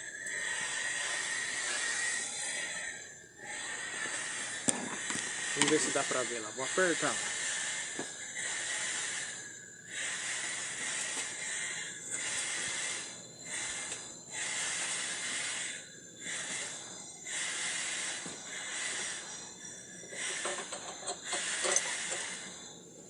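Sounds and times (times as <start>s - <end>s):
gas torch flame hissing: 0.0s - 23.0s.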